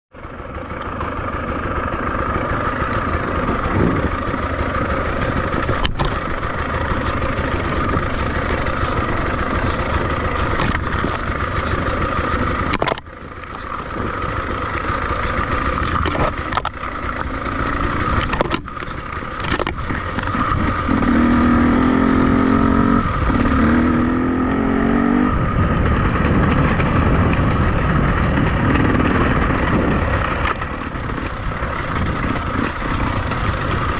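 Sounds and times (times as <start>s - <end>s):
off-road vehicle engine revving: 2.1s - 33.9s.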